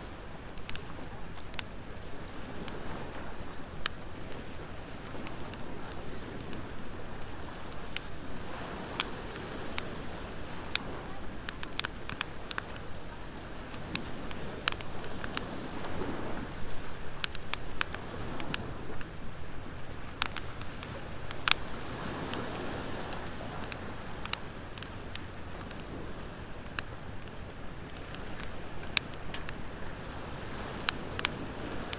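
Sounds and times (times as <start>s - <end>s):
ocean surf: 0.0s - 31.9s
wood fire crackling: 0.0s - 31.9s.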